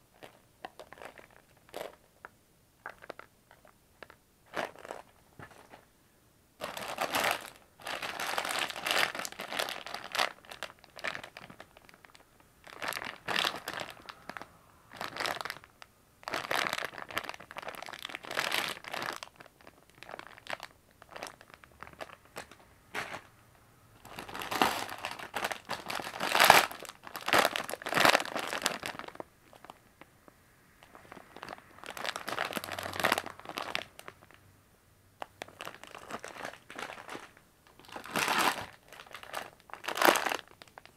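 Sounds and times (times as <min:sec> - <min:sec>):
plastic snack bags crinkling: 0:00.0 - 0:02.1, 0:02.8 - 0:05.9, 0:06.6 - 0:23.4, 0:24.0 - 0:30.1, 0:30.8 - 0:34.4, 0:35.2 - 0:40.9.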